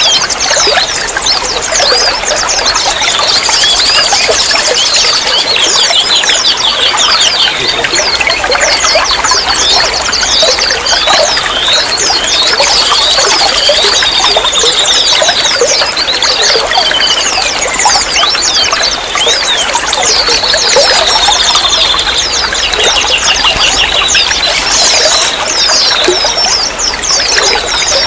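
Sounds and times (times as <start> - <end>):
small birds chirping: 0.0 - 28.0
water trickling and splashing: 0.0 - 28.0.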